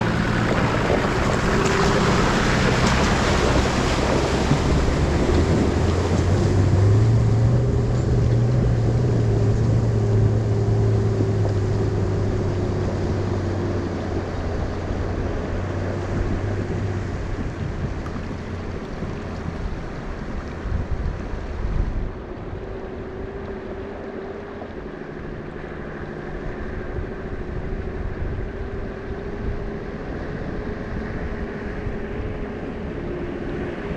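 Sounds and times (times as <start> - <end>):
vehicle engine under load: 0.0 - 33.9
water rushing and splashing: 0.0 - 33.9.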